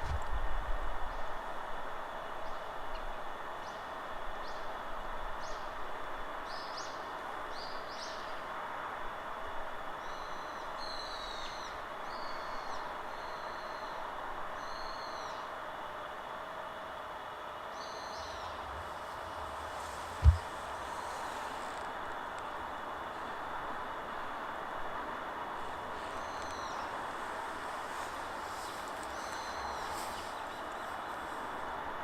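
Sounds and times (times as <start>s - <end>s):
wind through trees: 0.0s - 32.0s.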